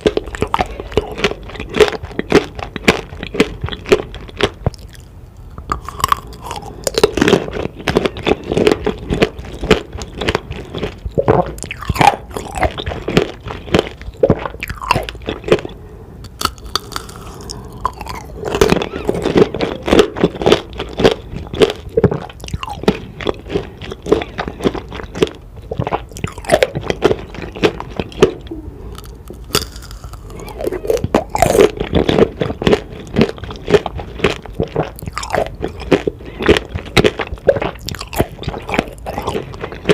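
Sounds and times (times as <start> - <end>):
candy shell crunching: 0.0 - 39.9
wet chewing: 0.0 - 39.9.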